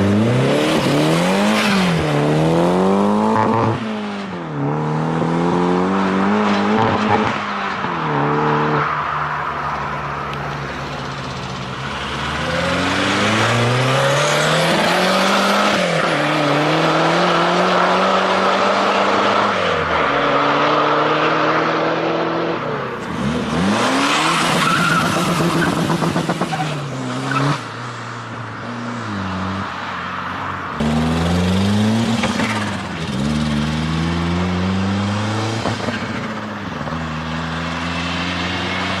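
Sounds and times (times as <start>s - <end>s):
car engines revving and accelerating: 0.0s - 39.0s.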